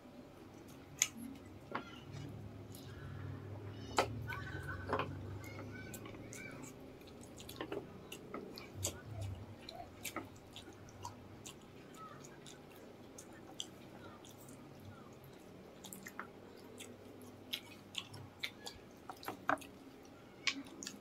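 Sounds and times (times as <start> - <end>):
wet chewing: 0.5 - 21.0
lip-smacking: 0.6 - 3.2, 3.8 - 21.0.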